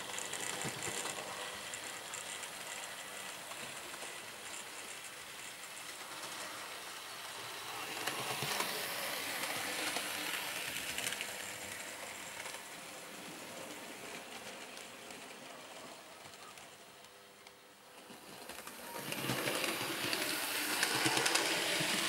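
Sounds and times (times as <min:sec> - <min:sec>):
model train rolling rattle: 0:00.0 - 0:22.0.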